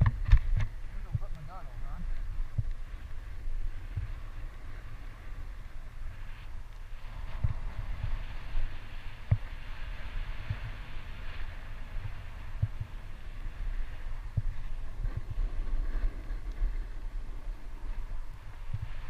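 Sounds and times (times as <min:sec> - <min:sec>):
skis sliding on snow: 0:00.0 - 0:19.0
wind buffeting microphone: 0:00.0 - 0:19.0.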